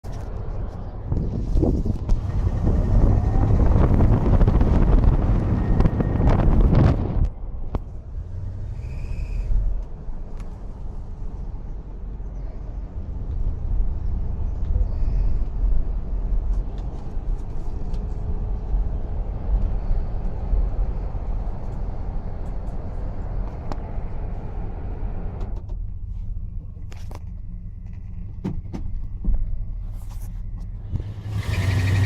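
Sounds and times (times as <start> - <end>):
car engine low rumble: 0.0 - 32.0.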